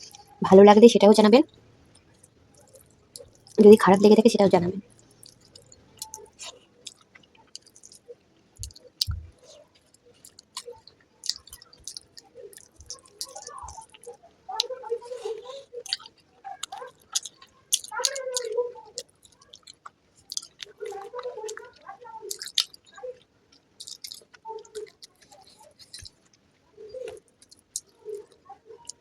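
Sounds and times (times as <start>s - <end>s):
close chewing with mouth sounds: 0.0s - 0.4s, 1.4s - 29.0s
lip smacks: 4.9s - 29.0s.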